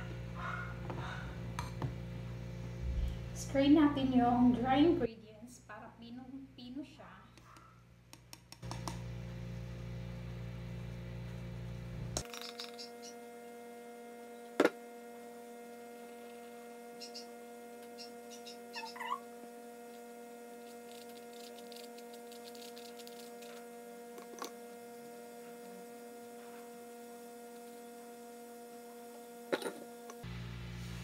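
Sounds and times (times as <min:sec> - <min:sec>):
steady electrical hum: 0:00.0 - 0:31.0.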